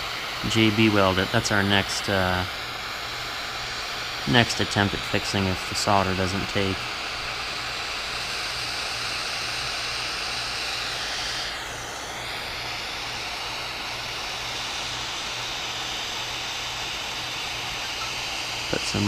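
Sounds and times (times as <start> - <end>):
propane torch roaring: 0.0 - 19.0.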